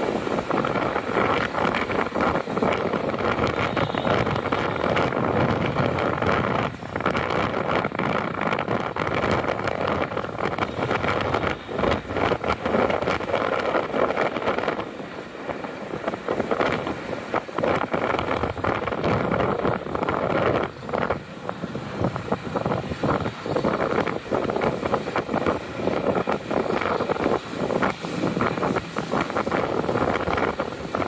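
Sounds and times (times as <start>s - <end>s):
street traffic: 0.0s - 31.0s
wind rushing over microphone: 0.0s - 31.0s.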